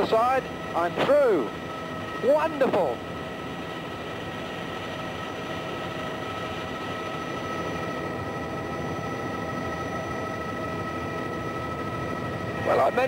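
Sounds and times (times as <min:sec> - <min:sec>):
helicopter cabin drone: 0:00.0 - 0:13.0
high turbine whine: 0:00.0 - 0:13.0.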